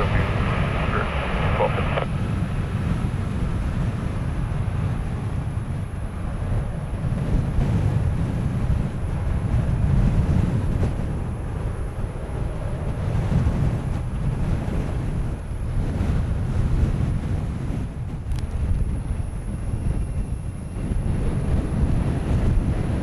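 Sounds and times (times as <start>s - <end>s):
jet engines rumbling: 0.0s - 23.0s
wind buffeting microphone: 0.0s - 23.0s.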